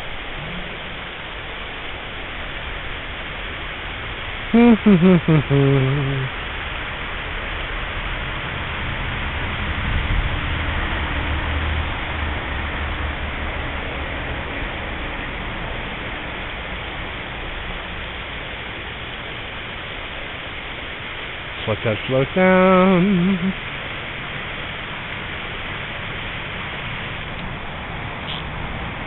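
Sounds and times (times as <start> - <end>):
deep water rumble: 0.0 - 29.0.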